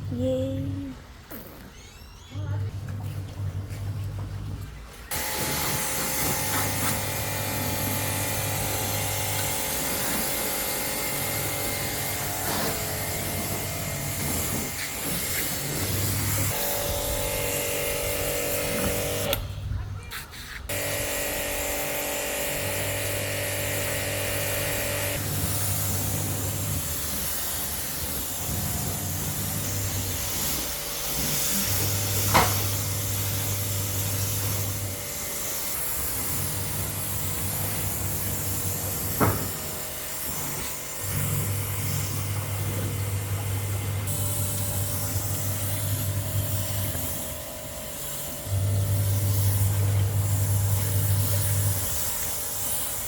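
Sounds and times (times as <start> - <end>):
pressure washer pump humming: 2.7 - 19.6, 20.7 - 53.0
water spray hiss: 5.1 - 19.4, 20.0 - 53.0.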